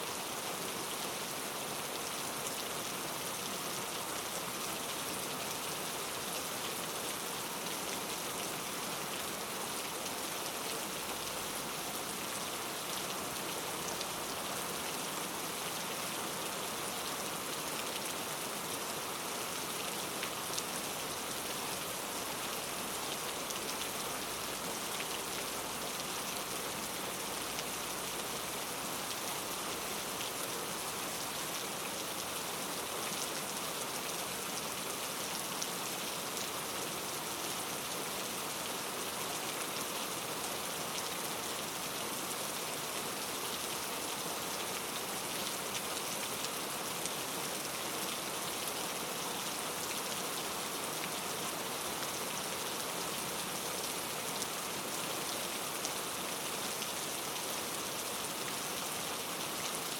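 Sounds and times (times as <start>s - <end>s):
rainfall: 0.0s - 59.9s.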